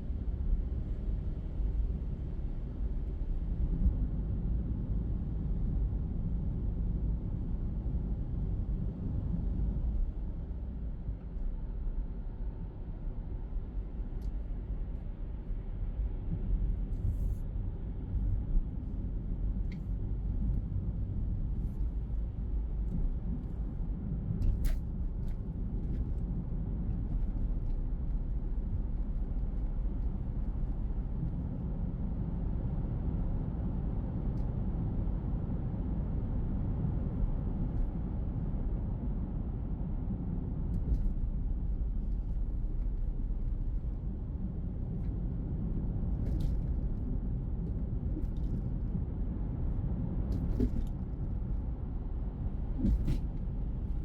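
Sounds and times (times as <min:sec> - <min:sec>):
road and engine rumble: 0:00.0 - 0:54.0.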